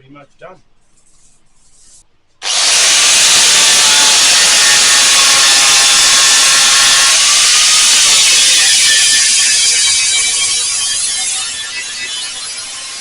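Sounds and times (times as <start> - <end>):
angle grinder grinding steel: 2.4 - 13.0.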